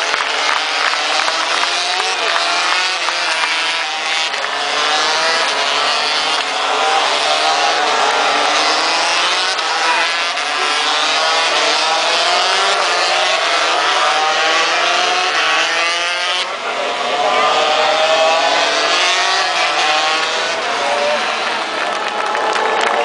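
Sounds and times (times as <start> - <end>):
racing motorcycles at high revs: 0.0 - 23.0.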